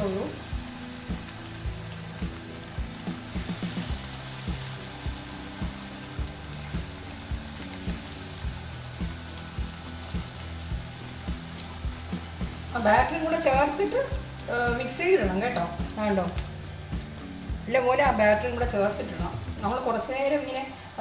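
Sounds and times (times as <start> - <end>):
background music with beat: 0.0 - 19.8
food frying in hot oil: 0.0 - 21.0.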